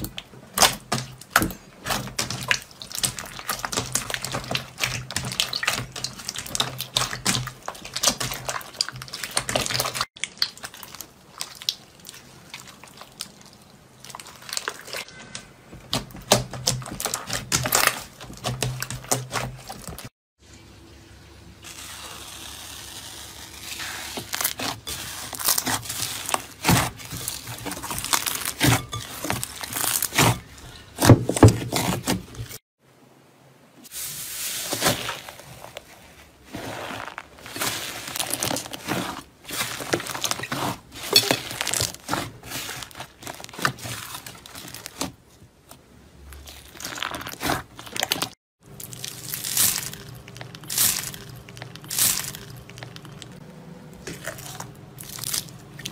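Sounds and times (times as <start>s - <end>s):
slime crackling and crunching: 0.0s - 20.1s, 21.6s - 32.6s, 34.0s - 45.2s, 46.3s - 53.4s, 54.0s - 55.9s.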